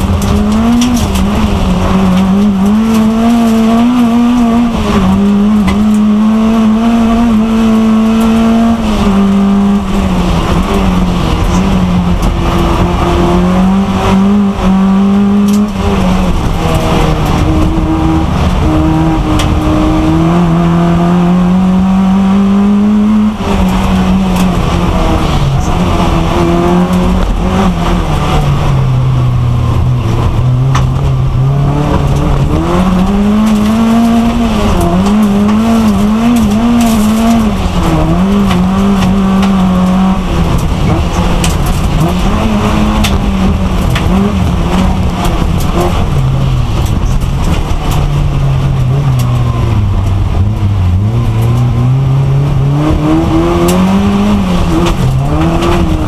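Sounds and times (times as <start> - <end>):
racing car engine under load: 0.0 - 56.0.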